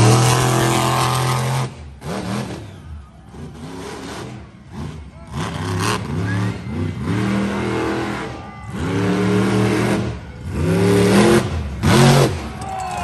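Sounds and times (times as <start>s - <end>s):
monster truck engine revving: 0.0s - 12.6s.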